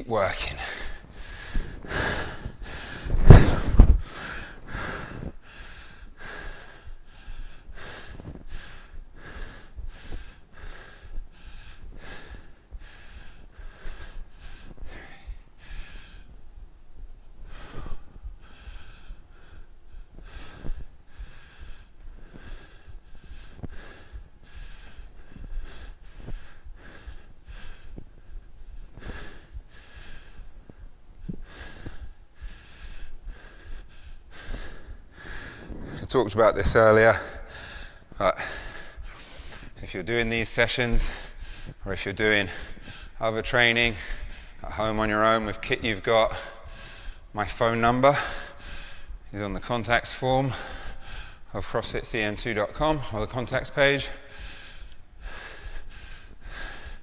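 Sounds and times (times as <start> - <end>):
man breathing hard: 0.1 - 57.0.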